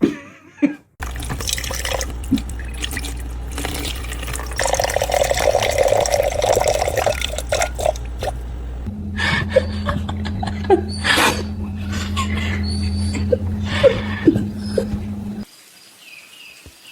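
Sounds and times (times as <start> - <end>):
steady low hum: 1.0 - 15.4
water splashing: 1.0 - 15.5.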